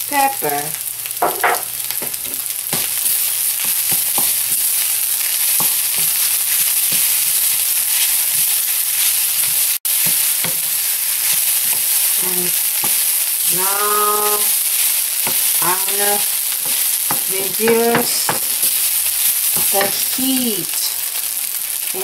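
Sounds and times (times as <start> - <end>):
rice sizzling in a frying pan: 0.0 - 22.0.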